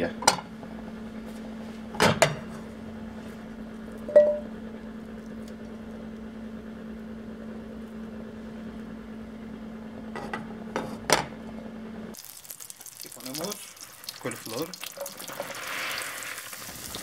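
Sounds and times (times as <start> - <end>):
low hum with faint hiss: 0.0 - 17.0.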